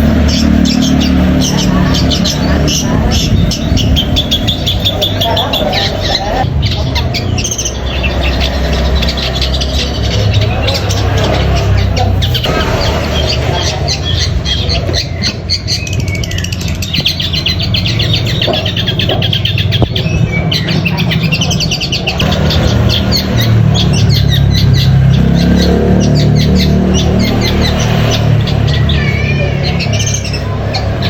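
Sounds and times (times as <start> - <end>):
bird singing fast chattering notes: 0.0 - 31.0.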